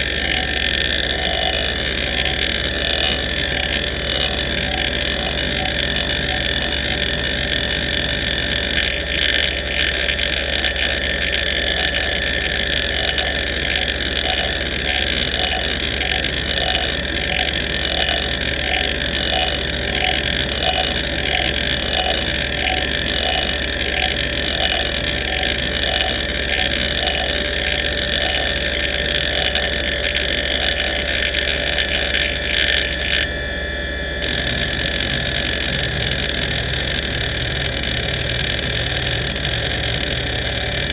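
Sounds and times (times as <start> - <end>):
hard drive platter whine: 0.0 - 40.9
hard drive seek chatter: 0.0 - 40.9.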